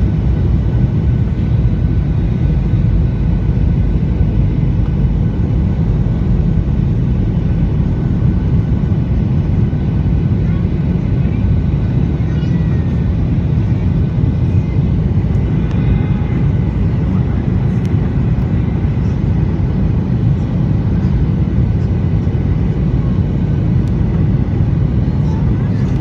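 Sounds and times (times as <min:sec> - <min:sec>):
airliner engines rumbling: 0:00.0 - 0:26.0
faint voices: 0:00.3 - 0:26.0.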